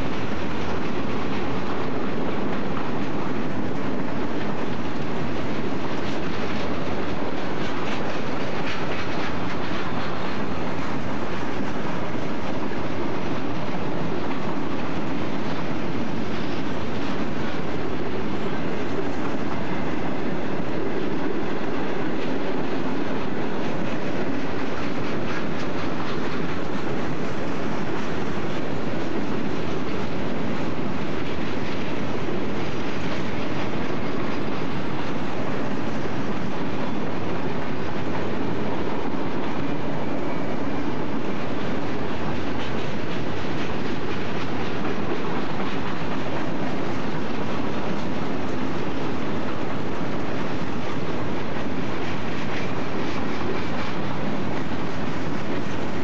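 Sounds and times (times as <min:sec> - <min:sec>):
freight train wheels rumbling on rail: 0:00.0 - 0:56.0
wheels clickety-clack: 0:00.0 - 0:56.0.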